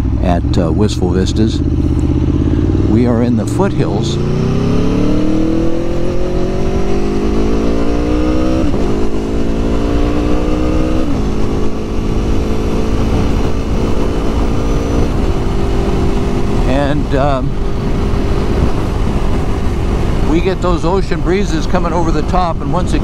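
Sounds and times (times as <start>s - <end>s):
motorcycle engine accelerating: 0.0s - 23.0s
wind rumble on microphone: 1.6s - 23.0s.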